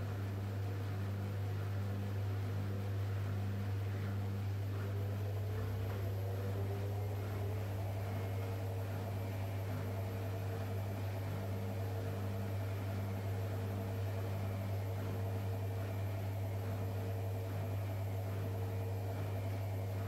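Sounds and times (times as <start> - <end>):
washing machine running: 0.0 - 20.0.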